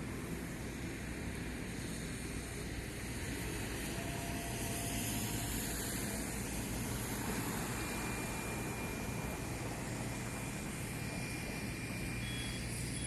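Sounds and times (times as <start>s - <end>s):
boat engines droning: 0.0s - 13.0s
faint high whine: 0.0s - 13.0s
harbour noise: 0.0s - 13.0s.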